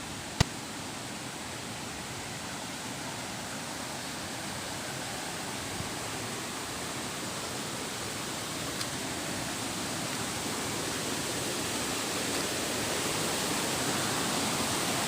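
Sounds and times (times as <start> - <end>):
waterfall rushing: 2.9 - 15.0.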